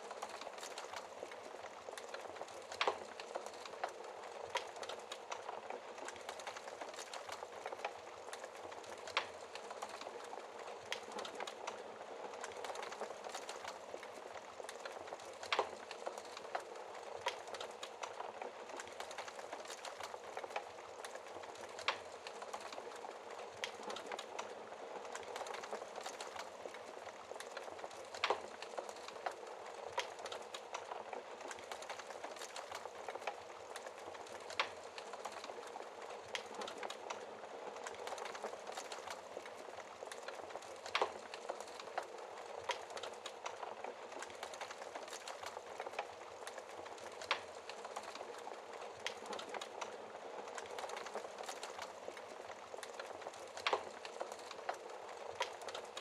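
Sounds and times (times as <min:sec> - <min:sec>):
fire crackling: 0:00.0 - 0:56.0
burning logs popping: 0:00.1 - 0:56.0.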